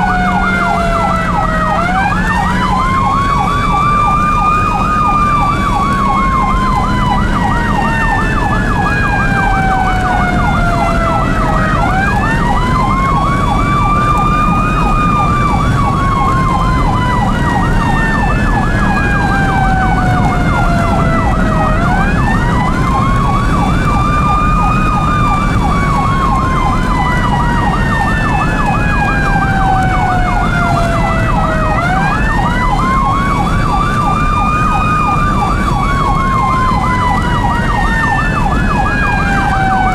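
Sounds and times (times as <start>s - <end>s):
electronic siren yelp: 0.0s - 39.9s
road and engine noise: 0.0s - 39.9s.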